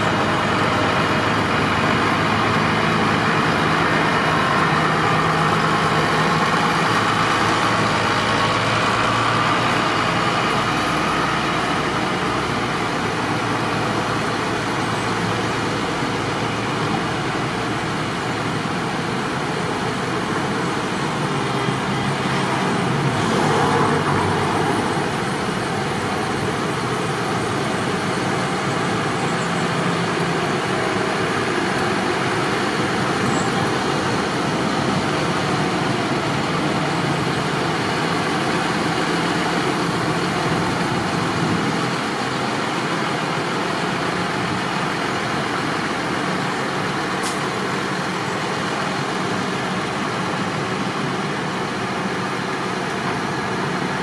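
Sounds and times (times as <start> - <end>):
tractors driving by: 0.0 - 54.0.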